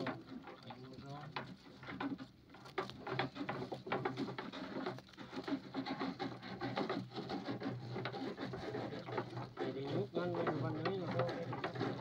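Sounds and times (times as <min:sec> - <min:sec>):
fishing net clattering and rustling: 0:00.0 - 0:12.0.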